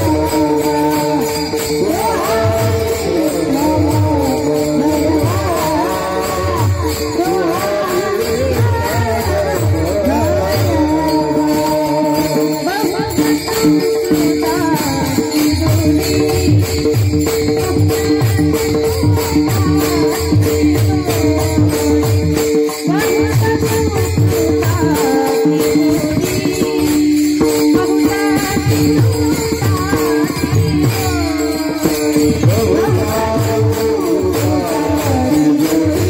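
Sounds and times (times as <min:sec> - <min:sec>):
hand cymbals clashing: 0:00.0 - 0:36.0
harmonium drone: 0:00.0 - 0:36.0
voices singing: 0:00.0 - 0:36.0.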